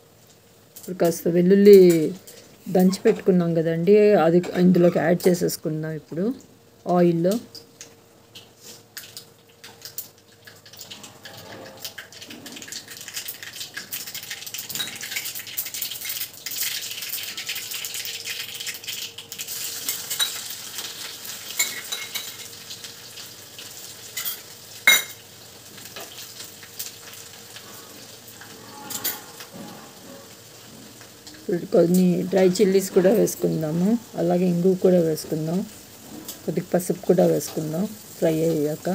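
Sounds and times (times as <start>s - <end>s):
hot oil sizzling and crackling: 0.0s - 38.9s.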